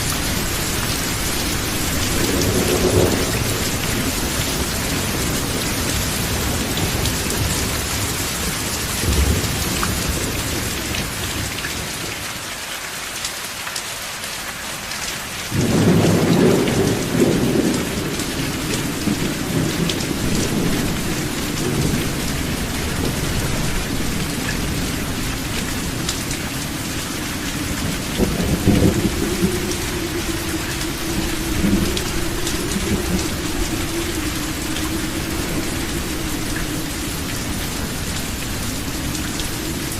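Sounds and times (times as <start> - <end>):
thunder rumbling: 0.0 - 11.5, 15.5 - 39.9
rain falling on a roof: 0.0 - 39.9.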